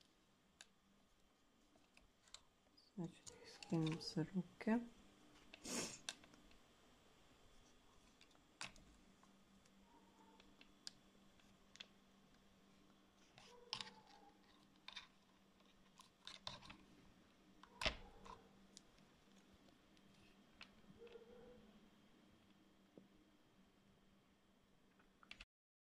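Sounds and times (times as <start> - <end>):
faint steady hum: 0.0 - 25.4.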